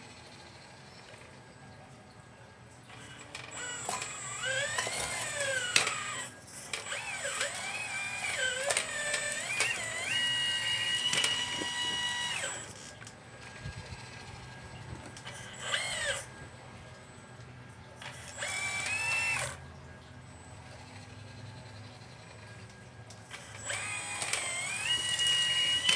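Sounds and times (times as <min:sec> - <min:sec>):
electric motors whining: 0:00.0 - 0:25.9.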